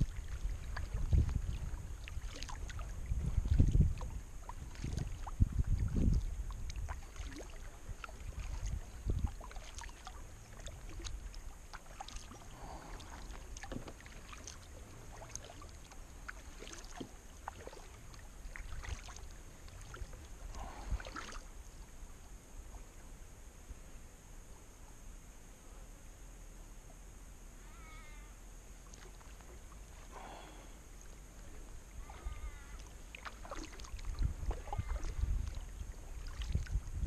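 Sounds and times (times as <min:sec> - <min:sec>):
paddle dipping and water splashing: 0:00.0 - 0:23.2, 0:28.7 - 0:37.0.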